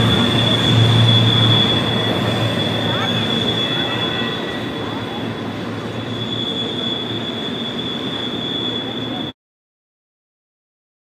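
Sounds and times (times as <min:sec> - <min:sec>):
rail cars rumbling: 0:00.0 - 0:09.4
train wheel flange squeal: 0:00.0 - 0:09.4.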